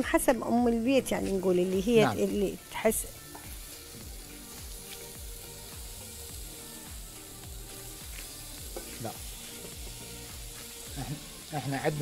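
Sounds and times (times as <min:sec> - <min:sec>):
background music with beat: 0:00.1 - 0:12.0
meat sizzling in a pan: 0:00.8 - 0:12.0.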